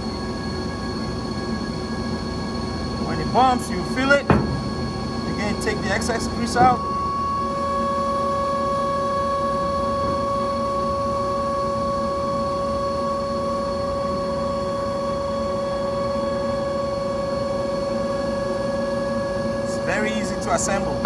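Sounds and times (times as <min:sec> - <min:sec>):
machine drone with whine: 0:00.0 - 0:21.0.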